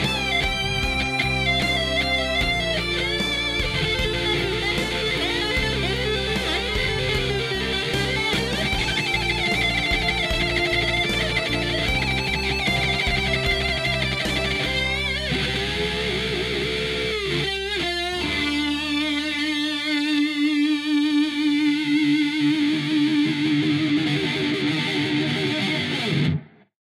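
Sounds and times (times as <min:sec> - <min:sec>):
distorted electric guitar lead: 0:00.0 - 0:26.7.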